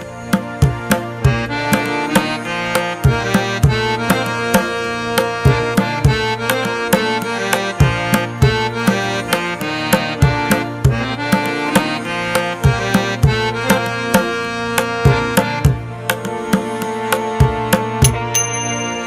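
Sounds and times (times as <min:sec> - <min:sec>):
sustained held melody: 0:00.0 - 0:19.0
hand-drum beat: 0:03.0 - 0:19.0.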